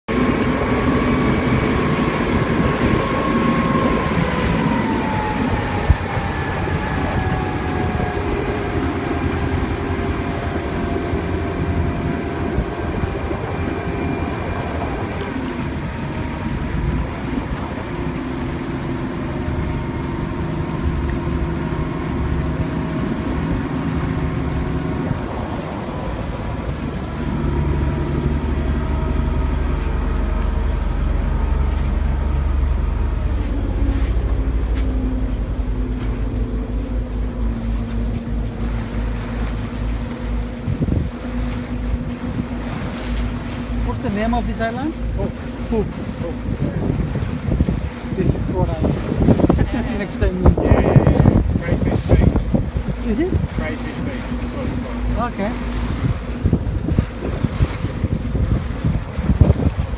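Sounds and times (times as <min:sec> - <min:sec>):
motorboat engine running: 0:00.0 - 0:59.9
water rushing past hull: 0:00.0 - 0:59.9.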